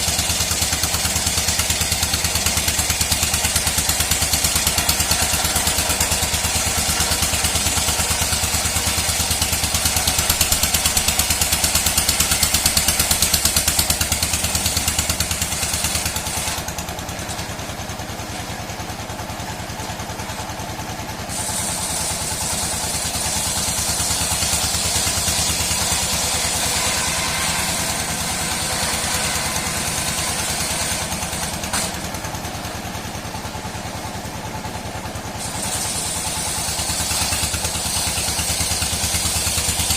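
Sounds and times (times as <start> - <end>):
saw rasping through wood: 0.0 - 39.9.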